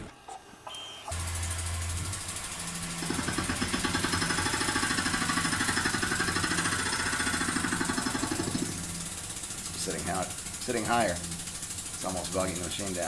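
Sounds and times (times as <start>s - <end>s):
milling machine spindle running: 1.1s - 13.0s.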